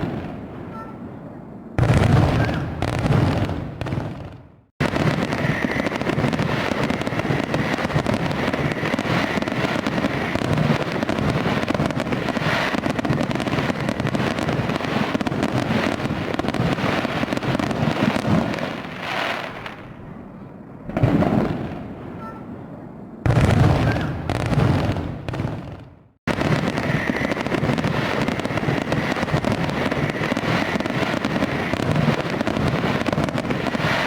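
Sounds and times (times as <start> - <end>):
fireworks bangs and crackling: 0.0 - 1.1, 1.8 - 20.2, 20.8 - 22.2, 23.2 - 34.0.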